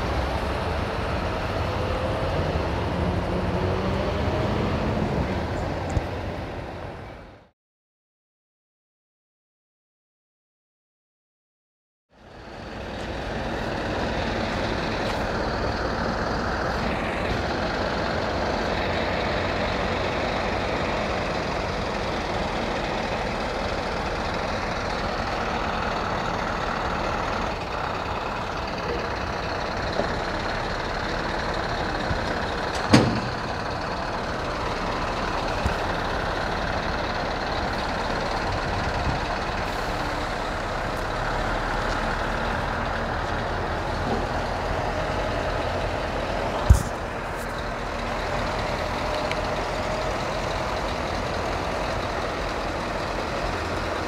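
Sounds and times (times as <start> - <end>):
diesel engine running: 0.0 - 7.5, 12.1 - 54.0.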